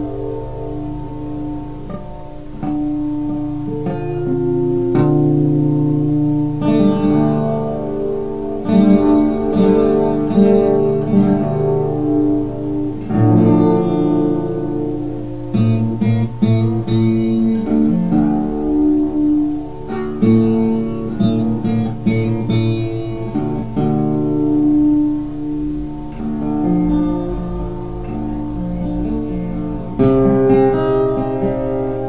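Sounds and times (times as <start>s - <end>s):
fingerstyle acoustic guitar: 0.0s - 32.0s.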